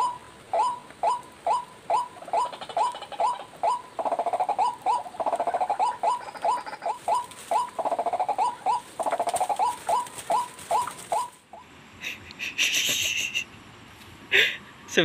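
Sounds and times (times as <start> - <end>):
waterhen calling: 0.0 - 13.4.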